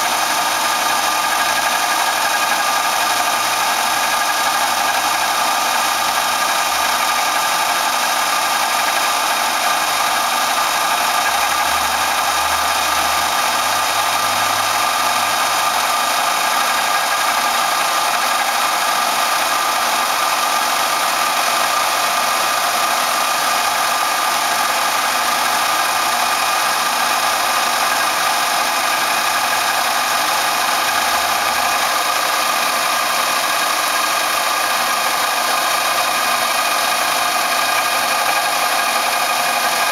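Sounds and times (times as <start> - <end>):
drilling machine humming: 0.0 - 39.9.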